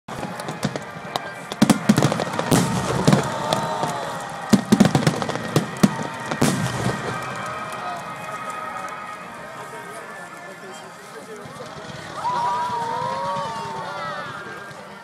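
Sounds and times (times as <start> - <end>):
fireworks bangs and crackles: 0.1 - 9.9, 10.6 - 15.0.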